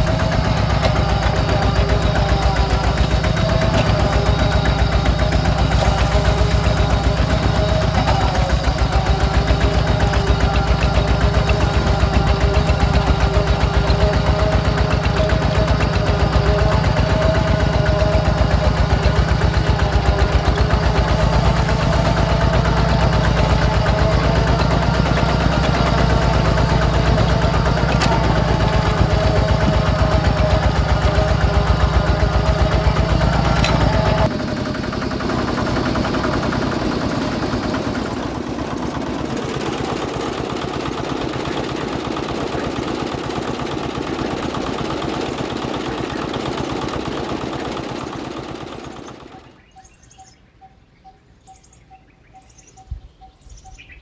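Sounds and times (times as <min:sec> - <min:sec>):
small diesel engine chugging: 0:00.0 - 0:50.4.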